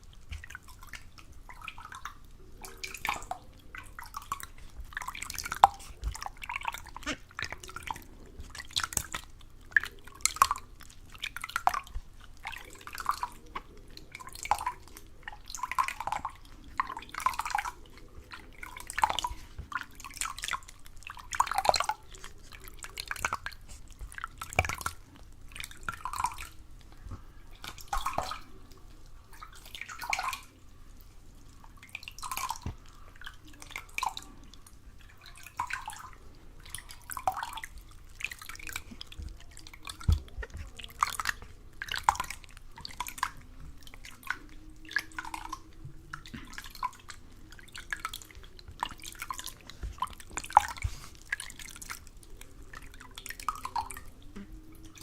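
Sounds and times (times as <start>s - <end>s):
water dripping and splashing: 0.0s - 55.0s.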